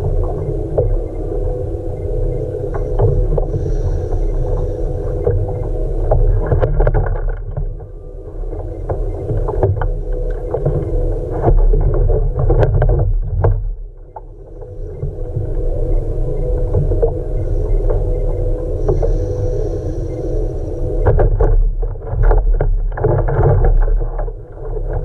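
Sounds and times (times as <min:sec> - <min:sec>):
low rumble and hum: 0:00.0 - 0:25.0.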